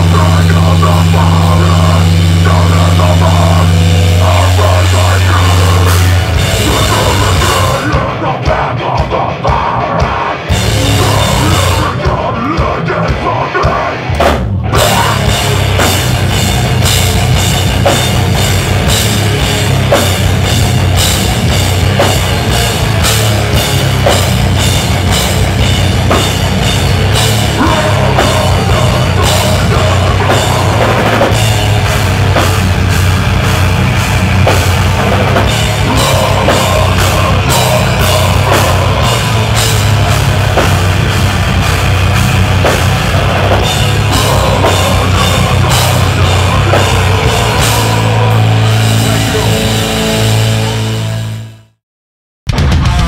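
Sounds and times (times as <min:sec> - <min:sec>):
fast dense drumming: 0:00.0 - 0:51.0, 0:52.5 - 0:53.0
bass: 0:00.0 - 0:51.8, 0:52.5 - 0:53.0
heavy guitars: 0:00.0 - 0:51.8, 0:52.5 - 0:53.0.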